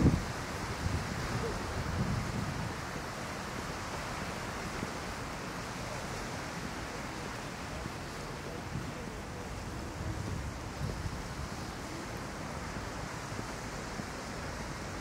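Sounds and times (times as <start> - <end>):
sea waves washing on shore: 0.0 - 15.0
wind: 0.0 - 15.0.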